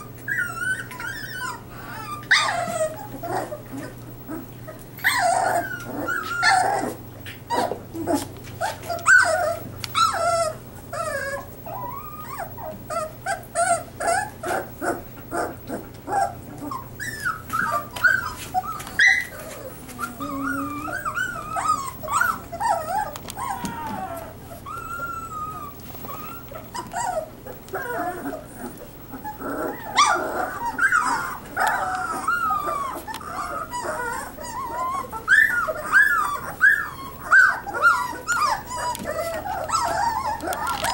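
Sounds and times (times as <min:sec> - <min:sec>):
puppies whining and squeaking: 0:00.0 - 0:40.9.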